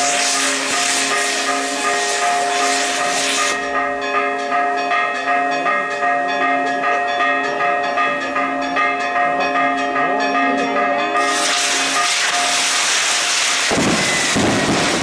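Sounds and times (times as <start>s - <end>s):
bells rung rapidly: 0.0s - 15.0s.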